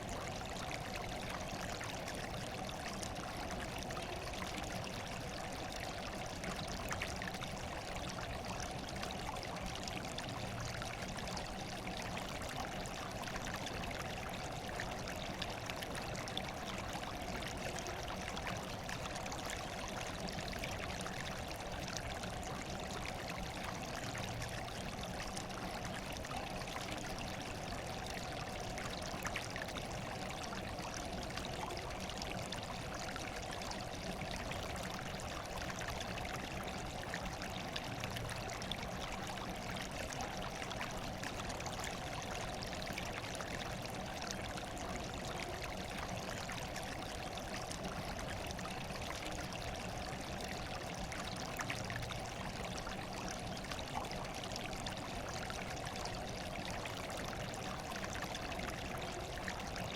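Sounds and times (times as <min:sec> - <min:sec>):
faint water drips: 0:00.0 - 0:59.9.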